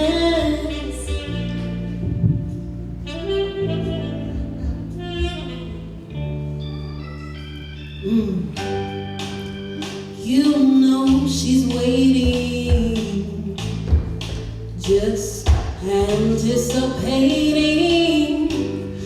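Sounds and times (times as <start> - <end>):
live band playing soul ballad: 0.0 - 19.0.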